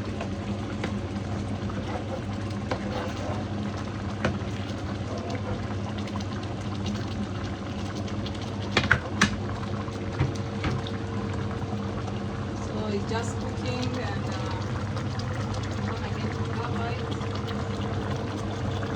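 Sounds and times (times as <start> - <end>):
stew bubbling in a pot: 0.0 - 18.9.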